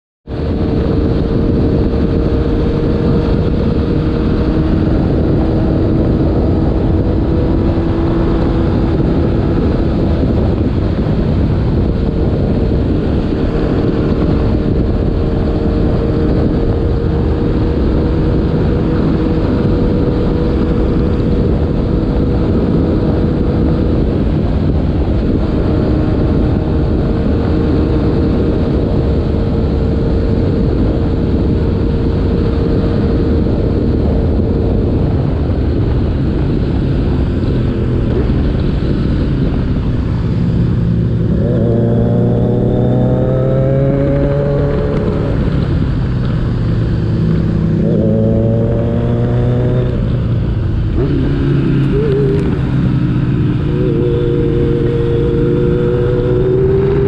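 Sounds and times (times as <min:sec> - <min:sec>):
wind on microphone: 0:00.2 - 0:57.0.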